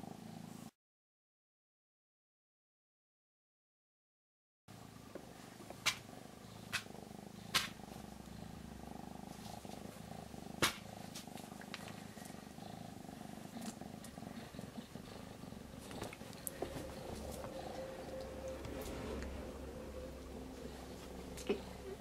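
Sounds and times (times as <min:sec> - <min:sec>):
cat purring: 0:00.0 - 0:00.7, 0:04.7 - 0:22.0.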